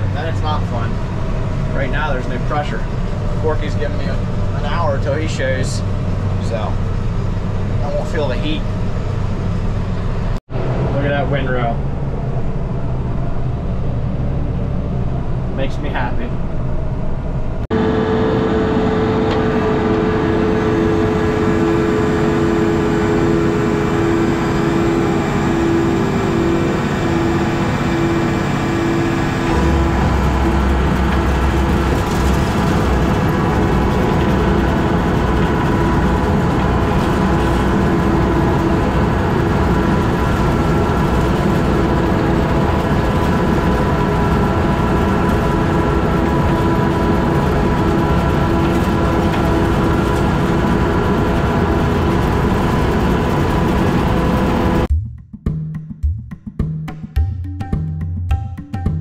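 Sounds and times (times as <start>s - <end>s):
hay merger mechanical drone: 0.0s - 54.9s
deeper machine hum: 0.0s - 55.0s
machine whine dropping in pitch: 5.8s - 54.9s.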